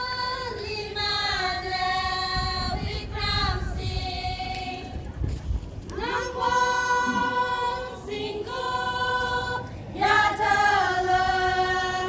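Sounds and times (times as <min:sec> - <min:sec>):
choir singing long notes: 0:00.0 - 0:04.9, 0:06.0 - 0:12.0.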